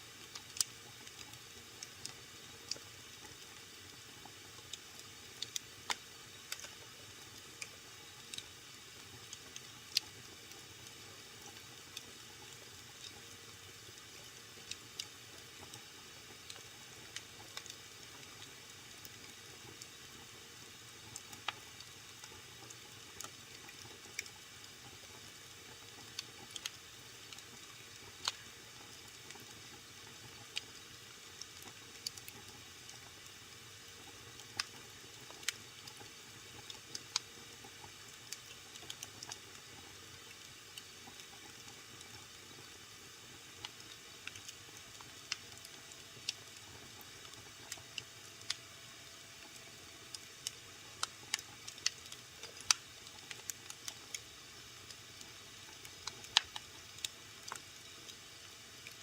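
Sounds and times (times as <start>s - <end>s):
wood fire crackling and popping: 0.2s - 20.3s, 21.0s - 33.3s, 34.0s - 48.6s, 49.4s - 58.2s.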